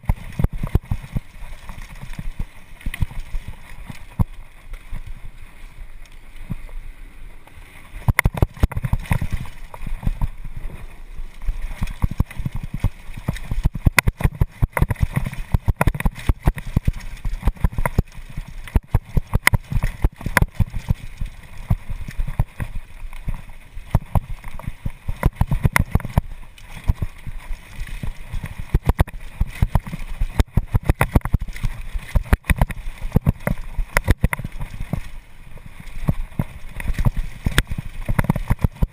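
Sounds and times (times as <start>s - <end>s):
mountain bike clattering on trail: 0.0s - 6.7s, 7.5s - 38.9s.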